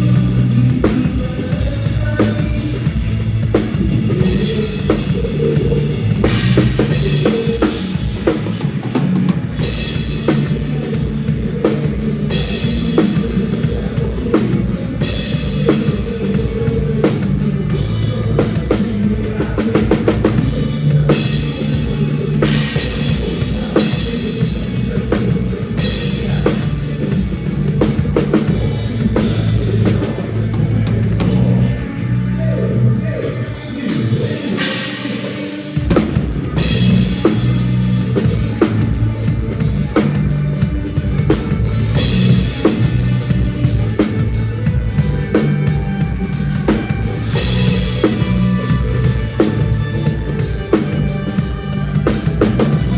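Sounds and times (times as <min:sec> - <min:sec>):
drum kit beat: 0:00.0 - 0:31.9, 0:33.2 - 0:52.9
sustained bass notes: 0:00.0 - 0:34.8, 0:35.8 - 0:52.9
band playing a song: 0:00.0 - 0:52.9.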